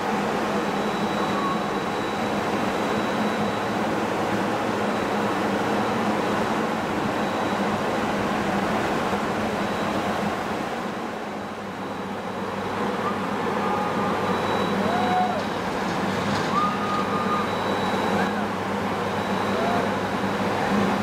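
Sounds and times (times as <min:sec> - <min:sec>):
amusement ride mechanical rumble: 0:00.0 - 0:21.0.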